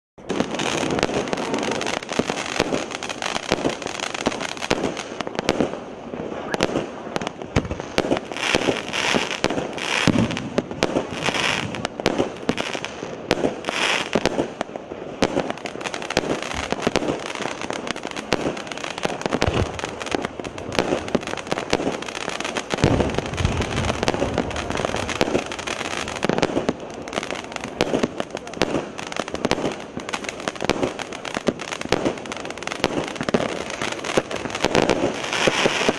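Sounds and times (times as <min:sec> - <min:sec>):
firework cake bangs and bursts: 0:00.2 - 0:35.9.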